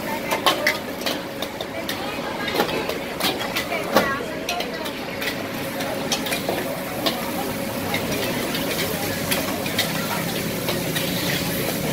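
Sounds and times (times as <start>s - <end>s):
noodles sizzling in a wok: 0.0s - 11.9s
spatula clinking and scraping wok: 0.0s - 11.9s.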